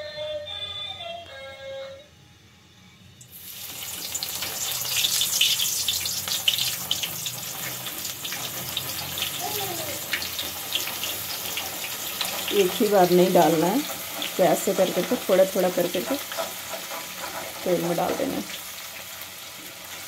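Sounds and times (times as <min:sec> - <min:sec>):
oil sizzling and crackling: 0:03.2 - 0:20.0.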